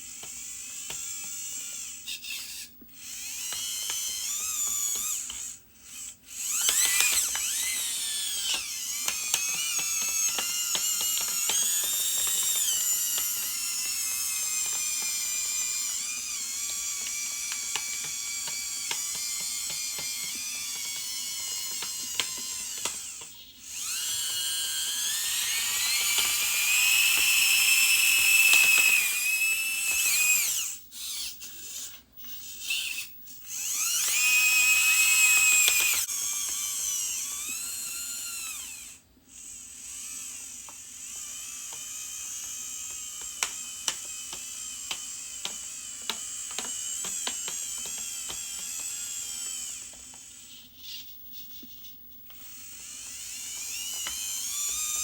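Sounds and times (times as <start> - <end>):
small electric motors whining: 0.0 - 55.0.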